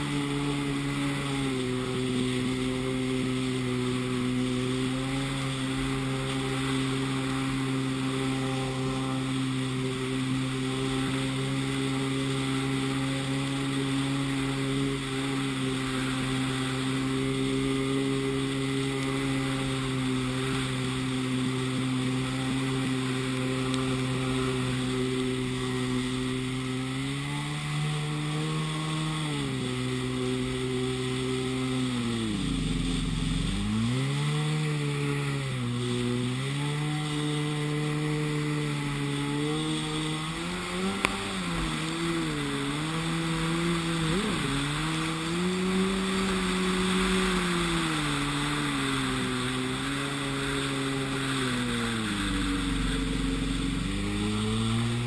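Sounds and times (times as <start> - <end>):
jet ski engine revving: 0.0 - 55.0
water rushing and spray hissing: 0.0 - 55.0.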